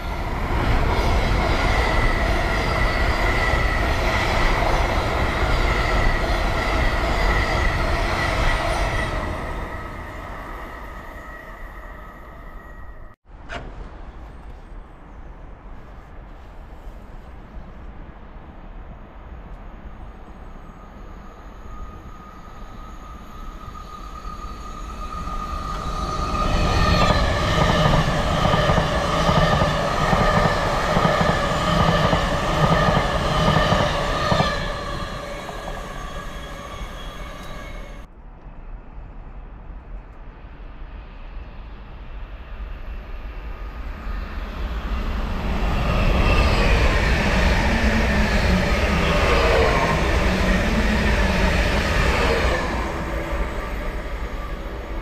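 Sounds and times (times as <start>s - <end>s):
train approaching: 0.0s - 55.0s
train passing: 0.0s - 55.0s.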